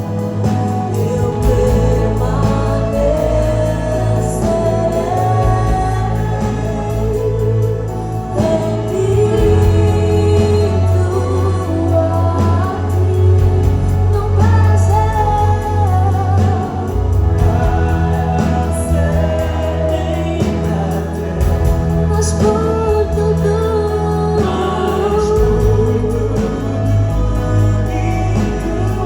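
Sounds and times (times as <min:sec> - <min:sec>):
band accompaniment: 0:00.0 - 0:29.0
group of voices singing: 0:00.0 - 0:29.0
heavy bass line: 0:00.0 - 0:29.0.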